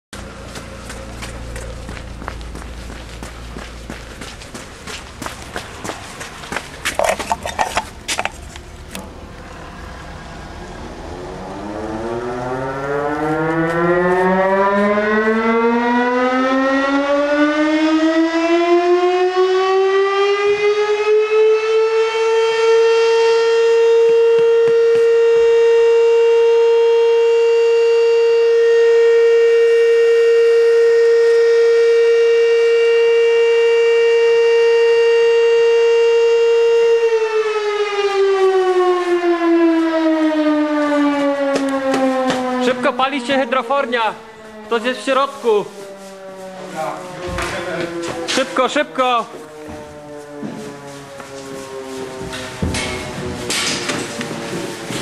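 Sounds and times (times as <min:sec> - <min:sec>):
fire station siren wailing: 0:00.2 - 0:55.0.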